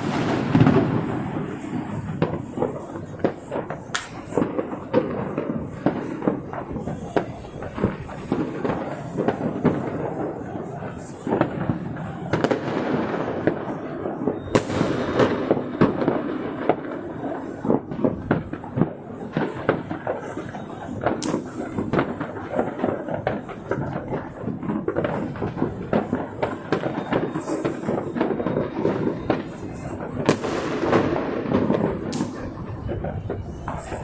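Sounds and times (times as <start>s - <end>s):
firecrackers cracking: 0.0s - 34.0s
firework booms: 0.0s - 34.0s.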